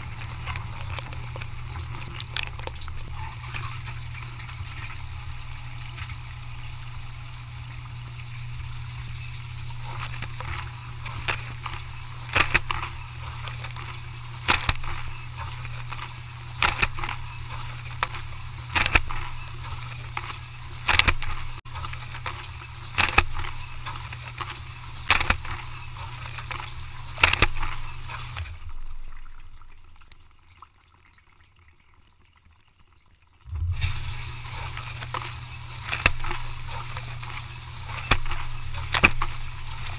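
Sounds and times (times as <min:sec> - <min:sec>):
water spraying inside dishwasher: 0:00.0 - 0:30.1, 0:33.5 - 0:39.9
dishwasher pump hum: 0:00.0 - 0:30.4, 0:33.5 - 0:39.9.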